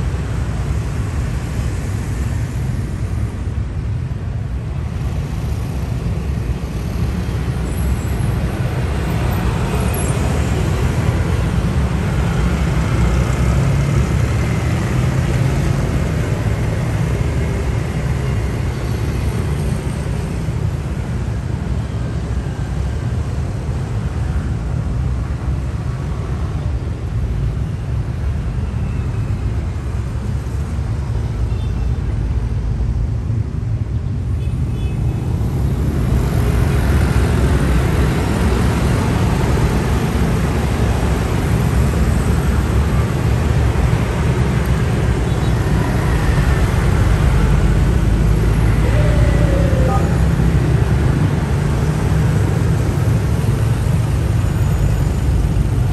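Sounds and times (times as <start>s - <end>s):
traffic rumble: 0.0s - 55.9s
scooters and cars passing: 4.6s - 55.9s.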